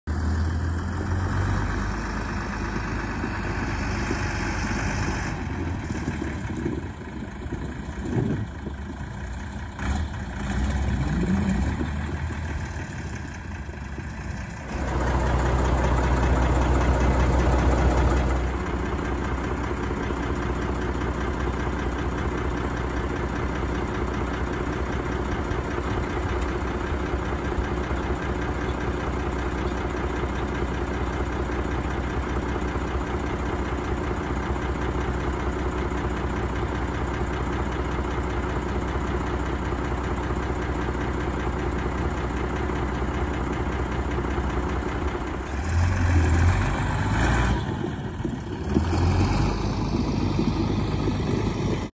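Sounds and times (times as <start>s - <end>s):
tractor diesel engine revving and idling: 0.0s - 51.9s.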